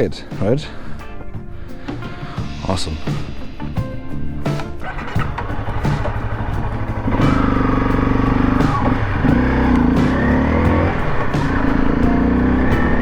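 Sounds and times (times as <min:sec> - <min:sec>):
motorcycle engine accelerating: 0:02.4 - 0:13.0.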